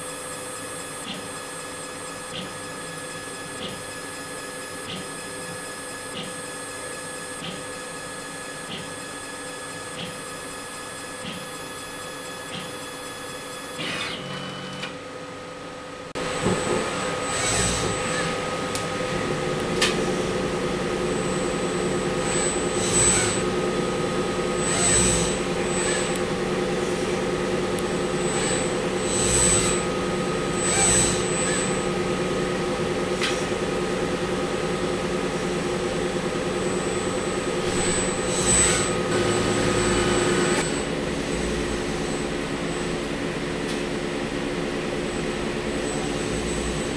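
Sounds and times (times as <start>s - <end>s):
hum of fans and motors: 0.0s - 46.9s
robotic arm motors whining: 0.1s - 15.0s, 16.2s - 46.9s.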